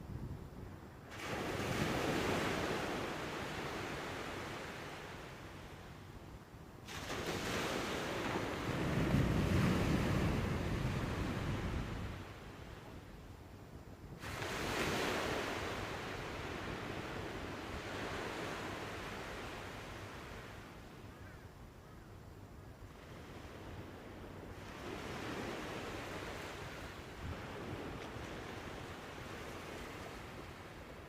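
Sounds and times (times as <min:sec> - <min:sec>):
sea waves breaking on shore: 0:01.1 - 0:05.7, 0:06.8 - 0:12.6, 0:14.2 - 0:20.8, 0:23.0 - 0:31.0.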